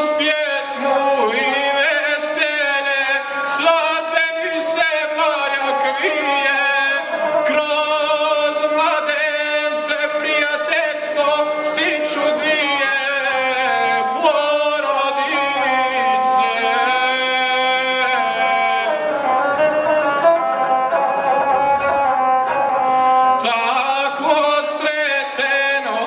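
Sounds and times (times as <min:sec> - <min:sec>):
bowed one-string fiddle: 0:00.0 - 0:26.0
man singing: 0:00.0 - 0:26.0.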